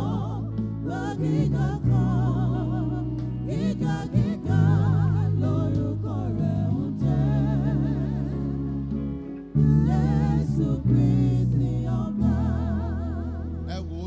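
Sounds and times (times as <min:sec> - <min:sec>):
gospel singing with vibrato: 0:00.0 - 0:14.0
heavy sustained bass notes: 0:00.0 - 0:14.0.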